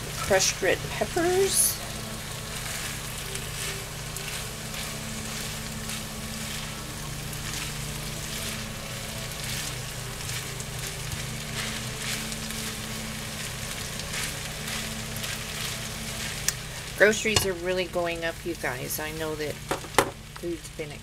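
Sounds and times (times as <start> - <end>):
crackles of frying: 0.0 - 21.0
rice sizzling in a pan: 0.0 - 21.0.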